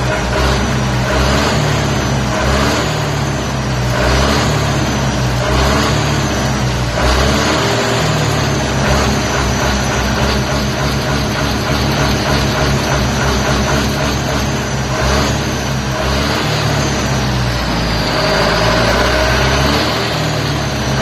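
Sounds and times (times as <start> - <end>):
tractor engine revving: 0.0 - 21.0.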